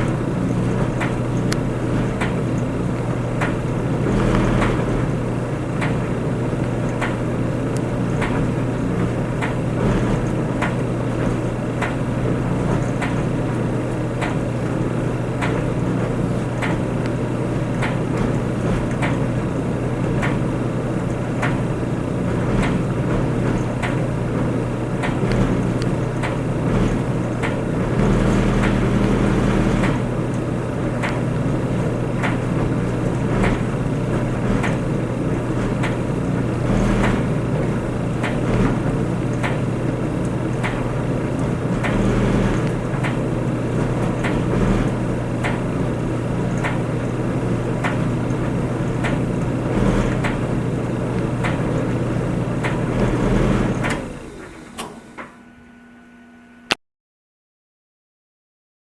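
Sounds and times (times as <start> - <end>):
tumbling load clicks and knocks: 0.0 - 14.8, 15.4 - 54.2
clothes dryer humming: 0.0 - 56.8.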